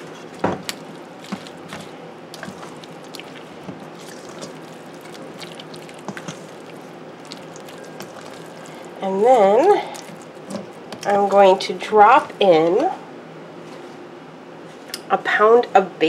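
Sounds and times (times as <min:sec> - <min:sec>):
spatula stirring thick mixture: 0:00.0 - 0:12.9.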